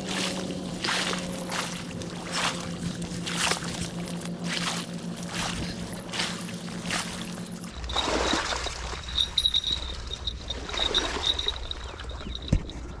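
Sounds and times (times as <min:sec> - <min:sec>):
wading through shallow water: 0:00.0 - 0:13.0
thin high ringing: 0:00.2 - 0:13.0.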